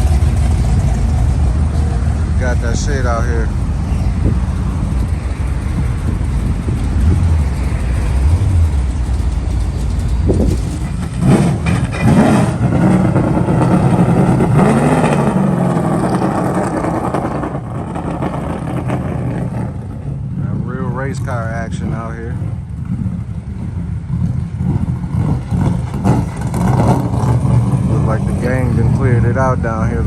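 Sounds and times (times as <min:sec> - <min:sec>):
car engine rumbling and revving: 0:00.0 - 0:30.0.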